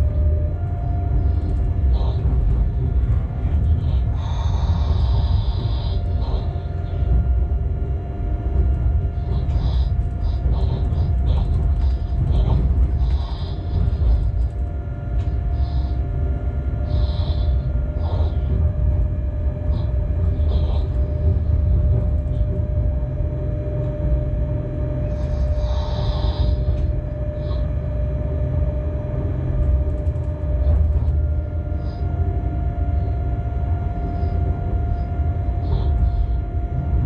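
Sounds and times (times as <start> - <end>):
steady whine: 0.0 - 37.0
wheels rumbling on rail: 0.0 - 37.0.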